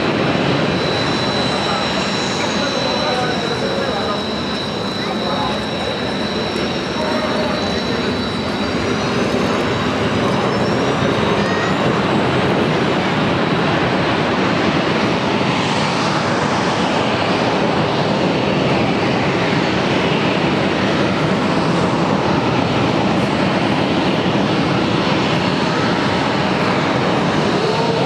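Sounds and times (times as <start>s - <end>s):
jet engines running loudly: 0.0s - 28.0s.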